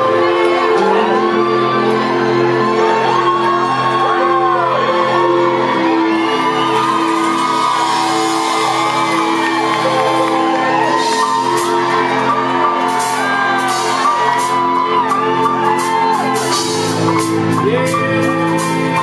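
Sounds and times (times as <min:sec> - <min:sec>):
crowd shouting and whooping: 0:00.0 - 0:19.0
live rock band playing: 0:00.0 - 0:19.0.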